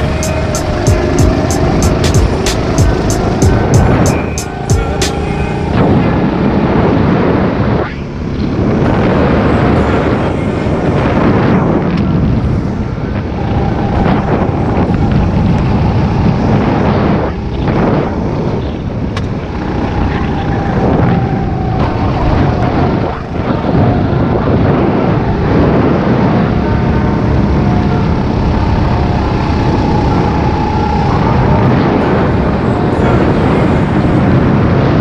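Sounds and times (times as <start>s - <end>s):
go-kart engine running hard: 0.0s - 35.0s
wind buffeting microphone: 0.0s - 35.0s.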